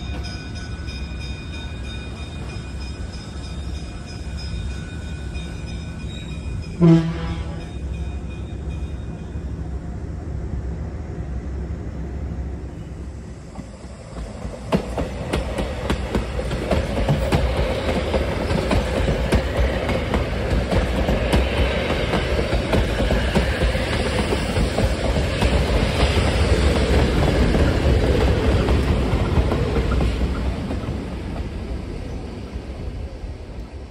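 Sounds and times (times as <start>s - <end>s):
train cars rolling past: 0.0s - 33.9s.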